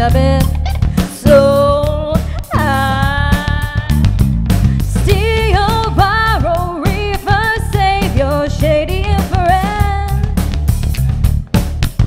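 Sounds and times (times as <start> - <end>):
female lead vocal: 0.0 - 10.4
bass guitar: 0.0 - 12.0
drum kit with cymbals: 0.0 - 12.0.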